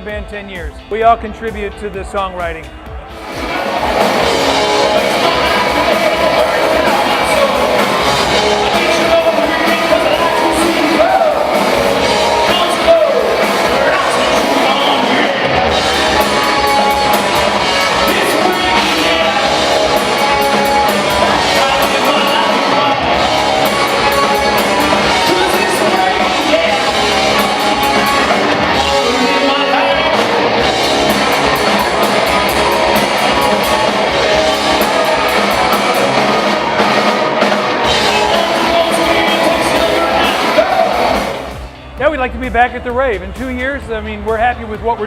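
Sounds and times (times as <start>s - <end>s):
drum kit: 0.0s - 45.0s
electric guitars: 0.0s - 45.0s
person singing: 3.5s - 36.8s, 37.8s - 41.3s.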